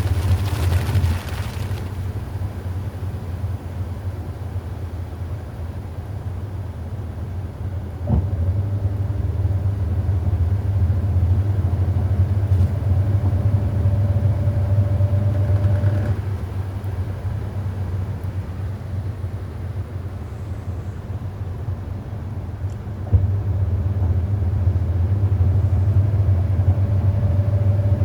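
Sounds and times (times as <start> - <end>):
washing machine humming: 0.0 - 28.0.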